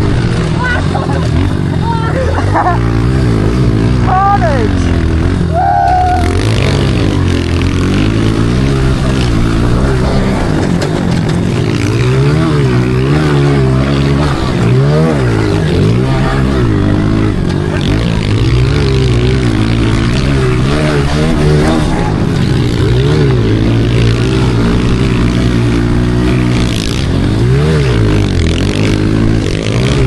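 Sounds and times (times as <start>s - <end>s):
pit bike engine revving: 0.0s - 30.0s.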